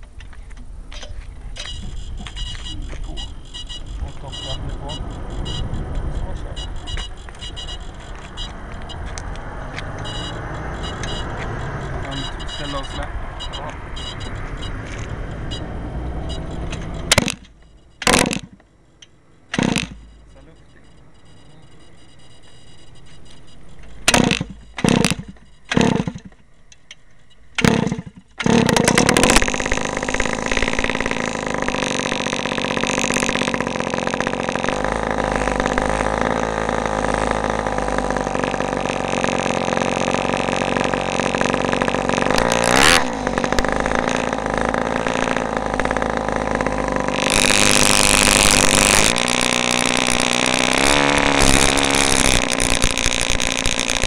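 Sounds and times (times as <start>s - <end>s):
small engine cranking and running: 1.6s - 18.6s, 19.5s - 20.1s, 23.4s - 54.0s.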